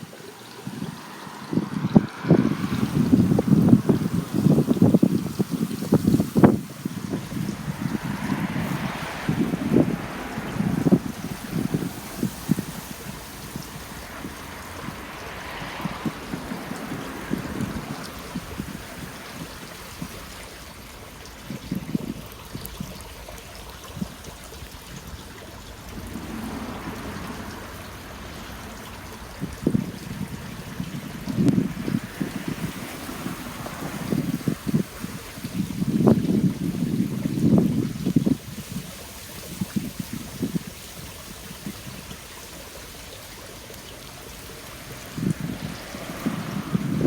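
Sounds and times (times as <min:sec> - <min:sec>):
water flowing through channel: 0:00.0 - 0:47.0.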